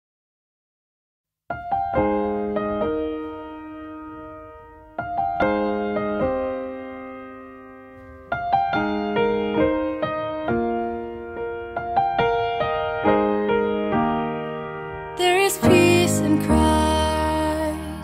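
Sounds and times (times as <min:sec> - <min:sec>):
gentle piano notes and chords: 0:01.5 - 0:18.0.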